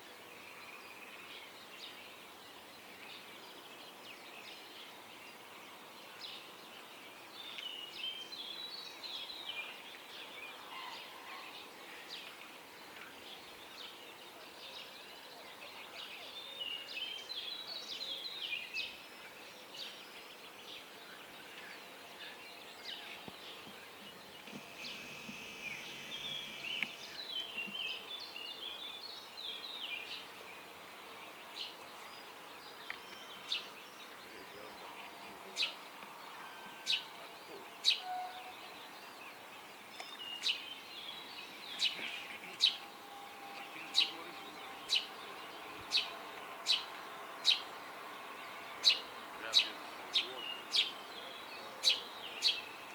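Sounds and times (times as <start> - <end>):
faint background hiss: 0.0 - 52.9
songbirds singing: 0.0 - 52.9.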